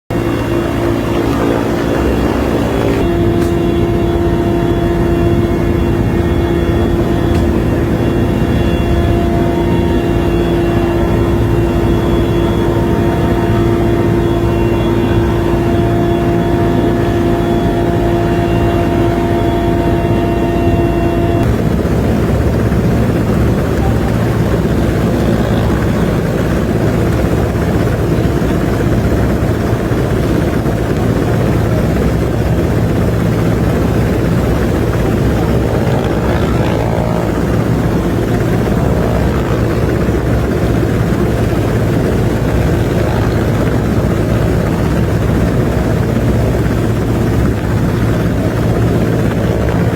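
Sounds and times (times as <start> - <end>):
helicopter rotor and engine: 0.0 - 49.9
steady tone: 0.1 - 49.9.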